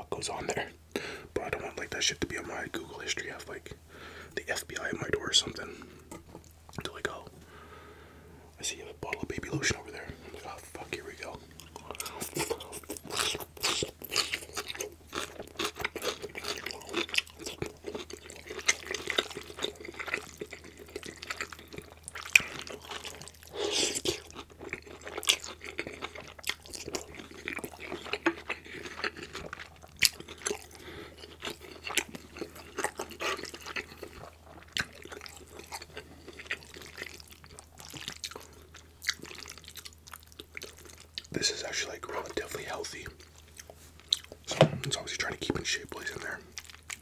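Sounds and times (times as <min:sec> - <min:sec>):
close-miked chewing: 0:08.7 - 0:47.0.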